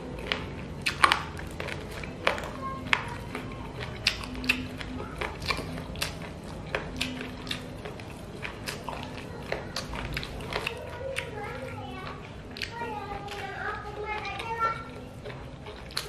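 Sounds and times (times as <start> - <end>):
chewing with mouth clicks: 0.0 - 16.0.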